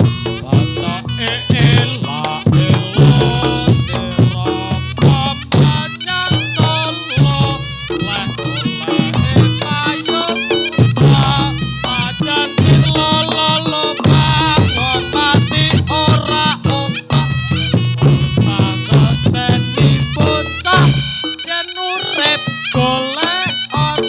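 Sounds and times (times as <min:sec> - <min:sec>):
shawm playing ornamented melody: 0:00.0 - 0:24.0
steady drumming: 0:00.0 - 0:24.0.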